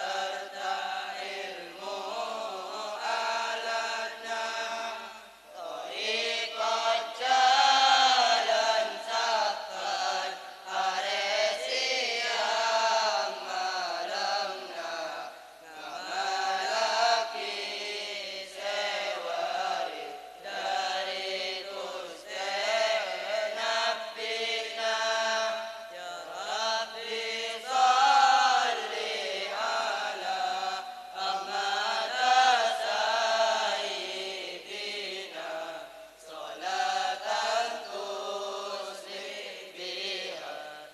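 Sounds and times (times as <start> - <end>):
boys chanting in unison: 0.0 - 40.9.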